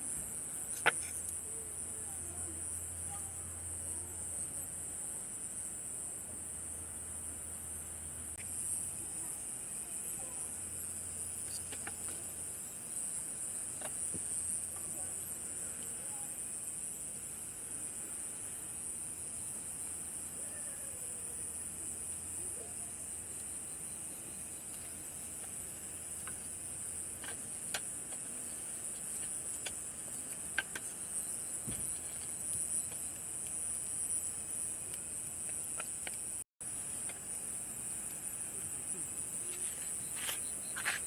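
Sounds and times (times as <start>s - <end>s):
night insects singing: 0.0s - 41.0s.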